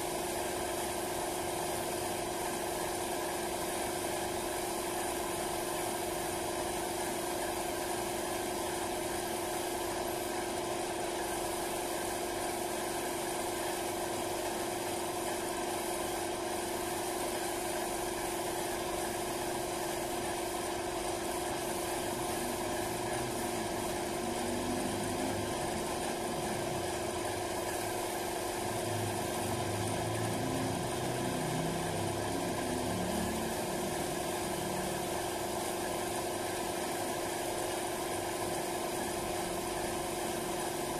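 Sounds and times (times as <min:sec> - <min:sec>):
air compressor humming: 0:00.0 - 0:40.9.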